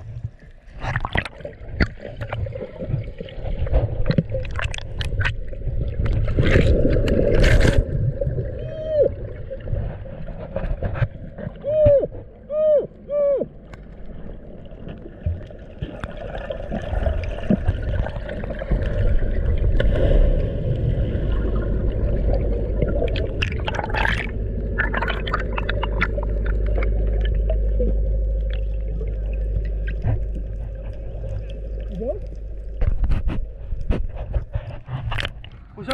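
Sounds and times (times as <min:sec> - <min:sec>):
bubbles crackling: 0:00.0 - 0:11.6, 0:13.5 - 0:35.9
muffled underwater rumble: 0:00.0 - 0:35.9.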